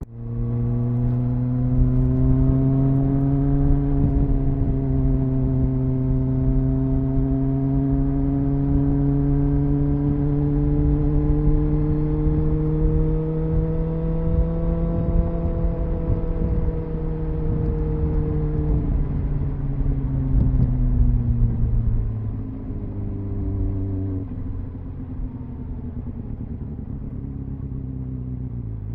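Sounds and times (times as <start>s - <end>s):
motorcycle engine: 0.0s - 28.9s
wind and road rumble: 0.0s - 28.9s.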